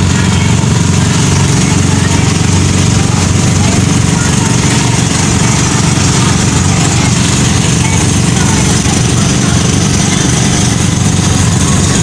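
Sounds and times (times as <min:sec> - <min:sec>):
boat engine throbbing: 0:00.0 - 0:12.0
water wash: 0:00.0 - 0:12.0.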